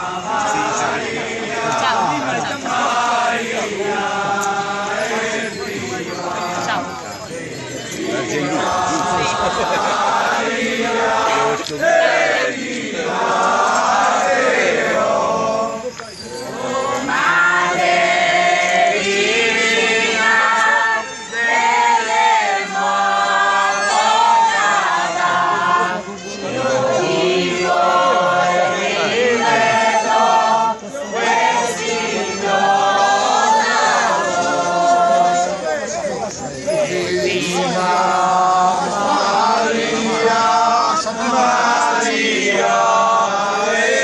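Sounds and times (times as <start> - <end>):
crowd singing a devotional chant: 0.0 - 44.0.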